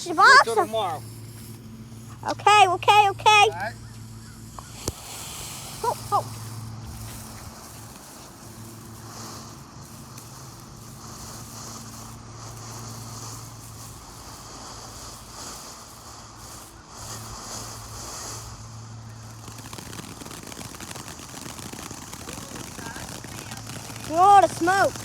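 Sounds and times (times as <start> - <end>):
firework fountain hissing: 0.0 - 25.0
low hum: 0.0 - 25.0.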